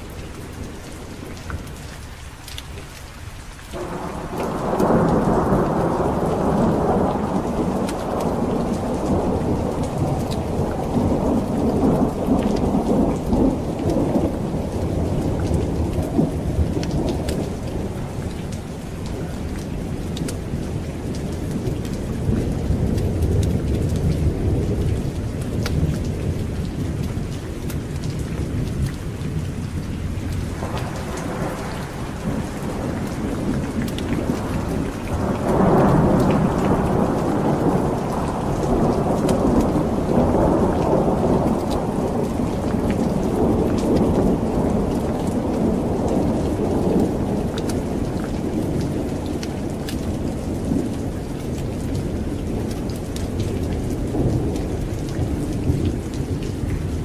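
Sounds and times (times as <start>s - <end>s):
heavy rain falling: 0.0s - 57.0s
thunder rumbling: 3.8s - 57.0s.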